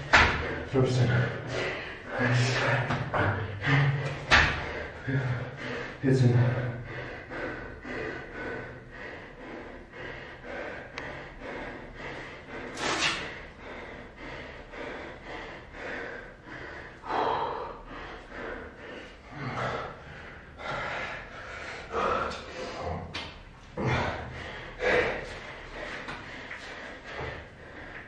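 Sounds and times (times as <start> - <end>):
man breathing hard: 0.0 - 28.0.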